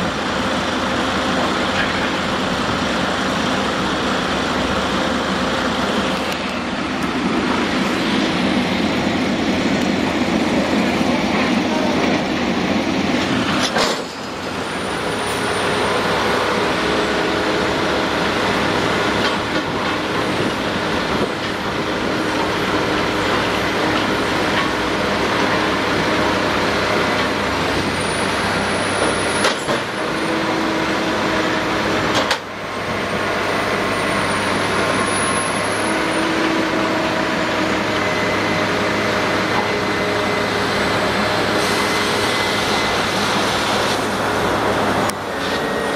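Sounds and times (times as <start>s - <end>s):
concrete mixer truck running: 0.0s - 45.9s
drilling rig diesel engine: 0.0s - 45.9s.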